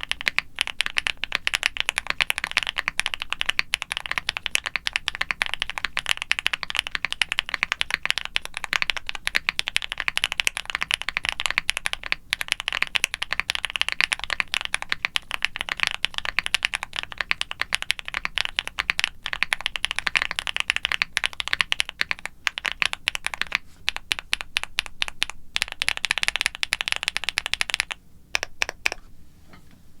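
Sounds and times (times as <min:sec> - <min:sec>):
fast mechanical keyboard typing: 0:00.0 - 0:29.0.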